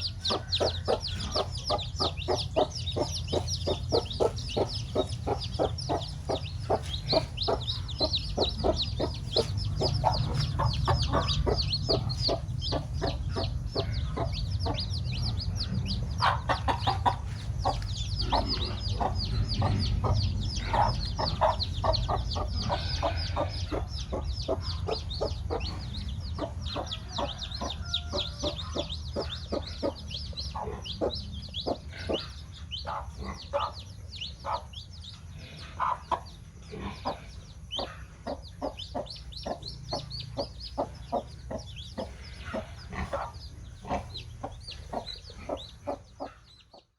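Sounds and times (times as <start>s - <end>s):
low steady rumble: 0.0s - 46.7s
chicks peeping: 0.0s - 46.9s
hen clucking: 0.0s - 46.9s.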